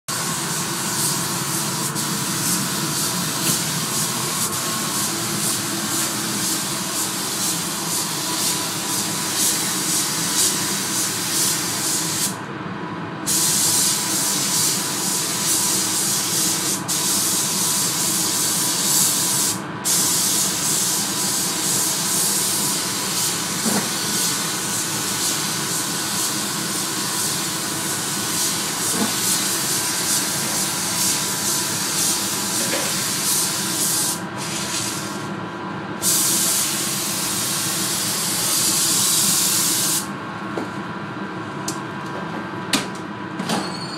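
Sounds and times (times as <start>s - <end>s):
paint spray gun hissing: 0.1s - 12.4s, 13.3s - 35.2s, 36.0s - 40.1s.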